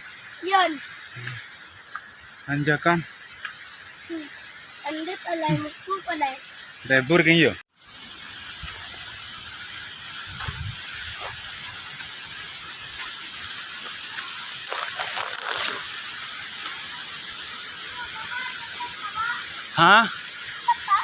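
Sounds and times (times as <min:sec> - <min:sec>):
insects droning: 0:00.0 - 0:21.0
rushing water hiss: 0:00.0 - 0:21.0.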